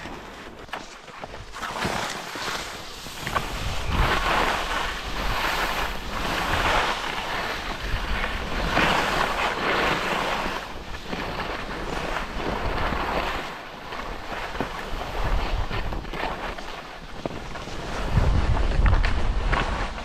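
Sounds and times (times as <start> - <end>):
skis scraping over snow: 0.0 - 20.0
wind rumbling on microphone: 0.0 - 20.0.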